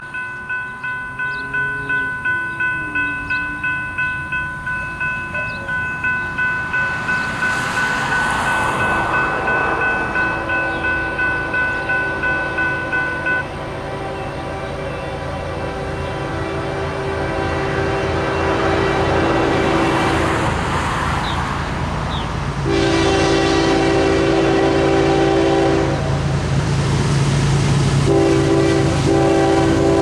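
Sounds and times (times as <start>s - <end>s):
crossing bell ringing rapidly: 0.0s - 25.6s
freight train rumble: 0.0s - 30.0s.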